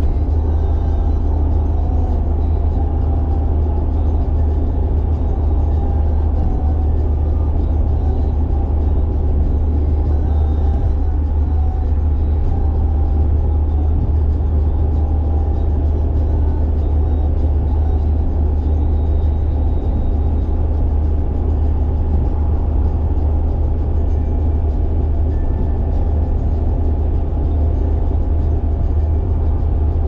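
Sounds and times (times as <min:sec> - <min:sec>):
car engine droning: 0:00.0 - 0:30.0
road noise: 0:00.0 - 0:30.0.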